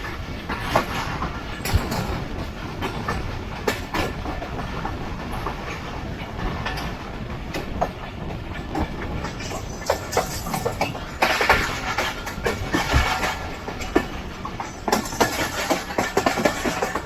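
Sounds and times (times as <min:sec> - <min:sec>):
train wheels rumbling on rails: 0:00.0 - 0:17.0
wheels clicking over rail joints: 0:00.0 - 0:17.0.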